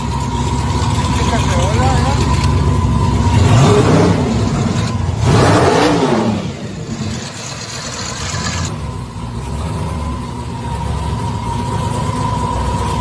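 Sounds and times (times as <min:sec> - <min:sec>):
engine revving and idling: 0:00.0 - 0:13.0.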